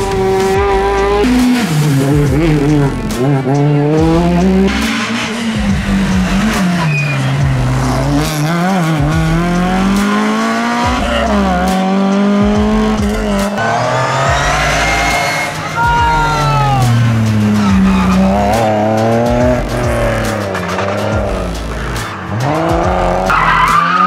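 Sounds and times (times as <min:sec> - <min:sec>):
rally car engines revving: 0:00.0 - 0:24.0.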